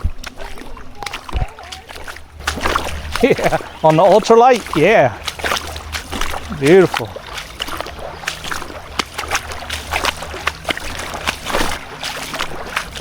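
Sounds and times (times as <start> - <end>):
water sloshing around a canoe: 0.0 - 13.0.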